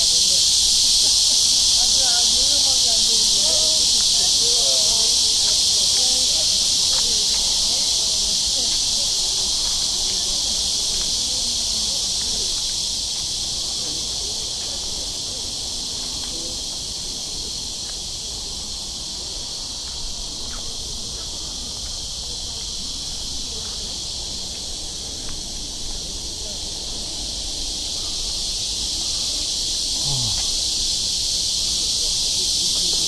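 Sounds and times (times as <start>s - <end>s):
cicadas singing: 0.0s - 33.0s.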